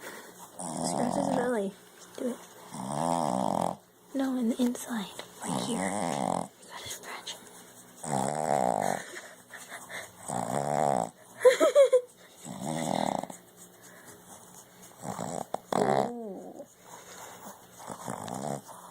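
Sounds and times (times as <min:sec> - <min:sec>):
puppy snoring: 0:00.0 - 0:03.9, 0:05.4 - 0:11.4, 0:12.4 - 0:18.9.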